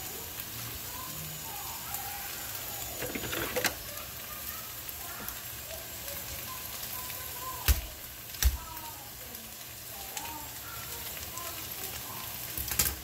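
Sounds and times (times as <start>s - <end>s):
potatoes sizzling in a pot: 0.0s - 13.0s.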